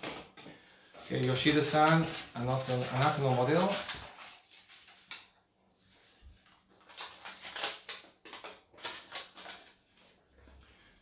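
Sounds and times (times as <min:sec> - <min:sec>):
paper cards rustling: 0:00.0 - 0:10.8.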